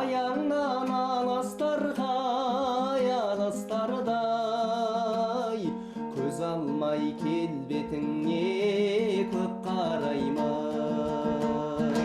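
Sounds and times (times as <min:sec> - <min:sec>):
person singing: 0:00.0 - 0:12.0
plucked string accompaniment: 0:00.0 - 0:12.0.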